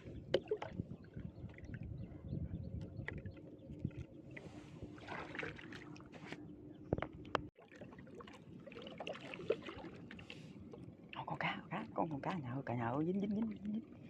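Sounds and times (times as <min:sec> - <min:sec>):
water splashing and trickling: 0:00.0 - 0:06.4, 0:07.0 - 0:14.0.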